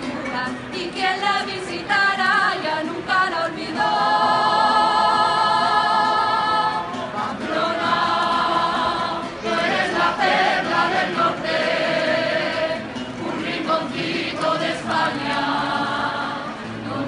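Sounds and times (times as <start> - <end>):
group of people singing: 0.0 - 17.0.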